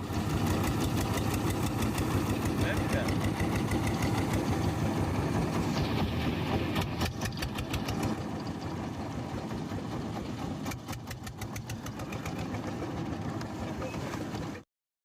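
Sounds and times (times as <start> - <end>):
boat diesel engine knocking: 0.0 - 14.6.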